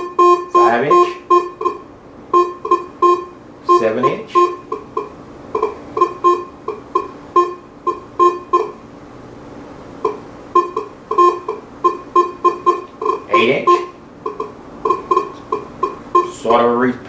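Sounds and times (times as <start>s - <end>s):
metal detector short beeps: 0.0s - 1.8s, 2.4s - 8.8s, 10.0s - 16.4s.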